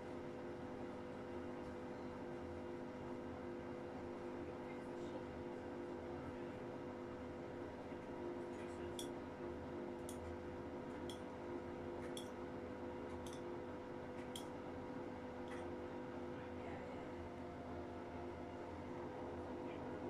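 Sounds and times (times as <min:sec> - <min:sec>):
appliance humming: 0:00.0 - 0:20.0.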